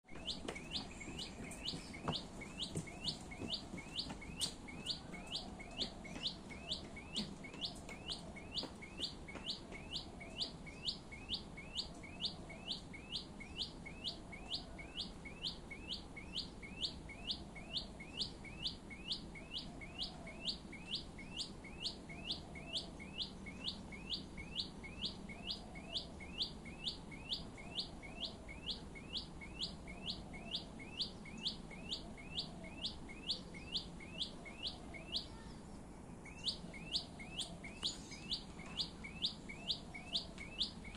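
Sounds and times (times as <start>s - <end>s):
bird singing sharp rising notes: 0.1s - 35.4s, 36.2s - 40.9s.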